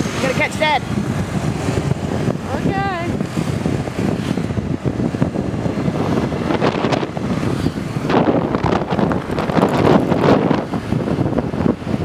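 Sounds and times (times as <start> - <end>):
scooter ride rumble: 0.0 - 12.0
wind buffeting microphone: 0.0 - 12.0.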